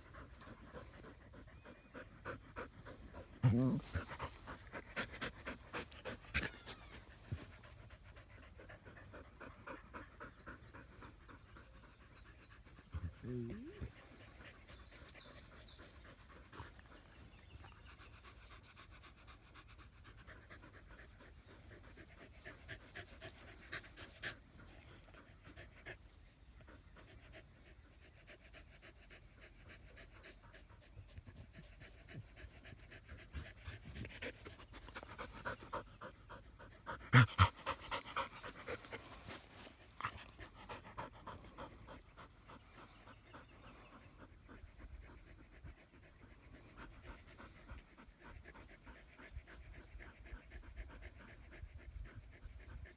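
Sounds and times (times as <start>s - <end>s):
dog panting rapidly: 0.0s - 52.9s.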